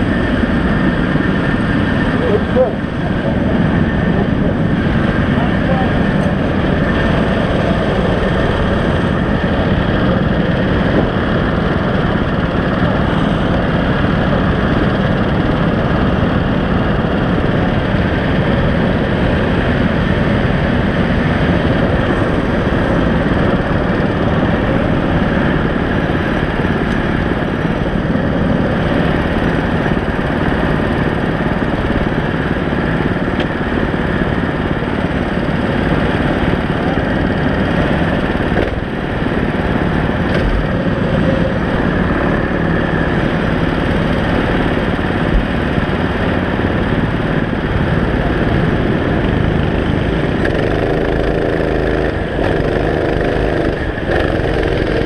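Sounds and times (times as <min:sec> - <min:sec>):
kart engines running: 0:00.0 - 0:55.0.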